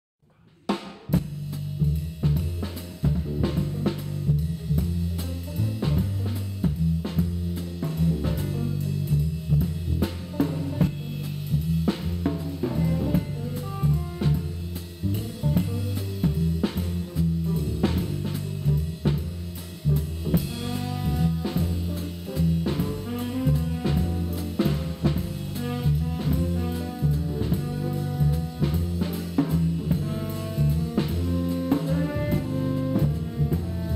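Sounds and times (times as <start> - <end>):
upbeat music with drums and bass: 0.7 - 33.9.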